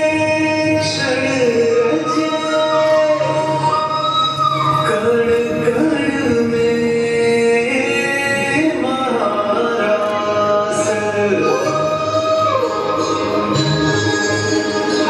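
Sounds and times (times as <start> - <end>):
song with gliding sung melody: 0.0 - 15.0.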